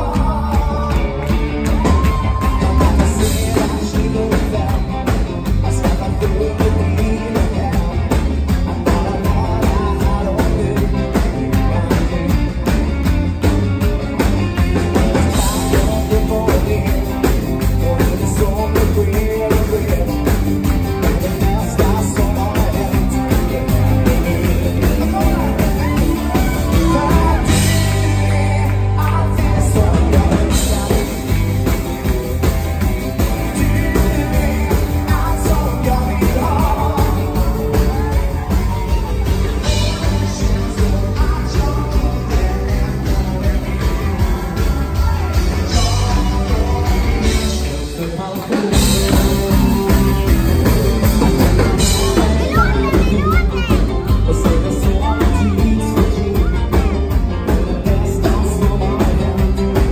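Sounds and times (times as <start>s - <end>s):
live band playing: 0.0s - 59.9s
man singing lead vocal: 0.0s - 59.9s.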